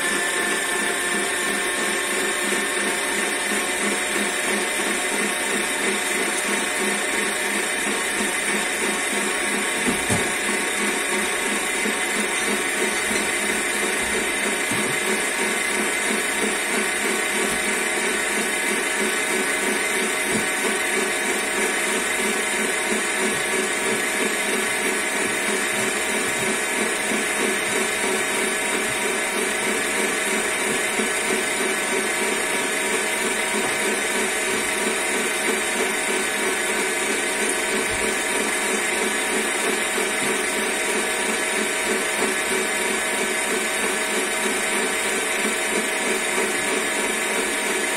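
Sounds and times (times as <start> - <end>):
stand mixer whirring: 0.0 - 47.9.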